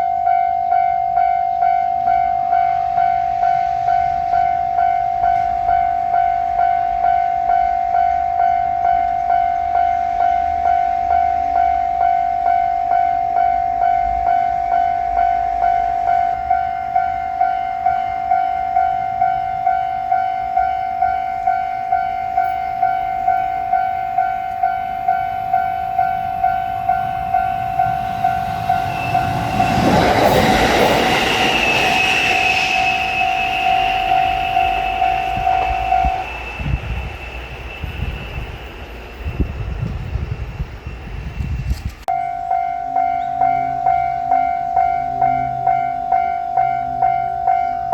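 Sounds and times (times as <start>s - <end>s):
level-crossing warning bell: 0.0s - 40.4s, 42.1s - 47.9s
high steady tone: 0.0s - 47.9s
train passing: 0.0s - 47.9s.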